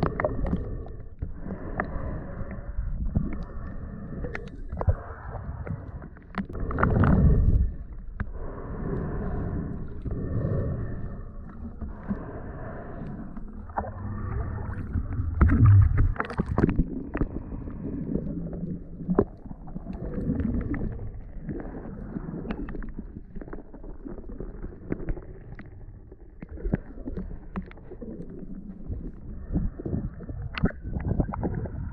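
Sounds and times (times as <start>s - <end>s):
muffled water sloshing and splashing: 0.0s - 31.9s.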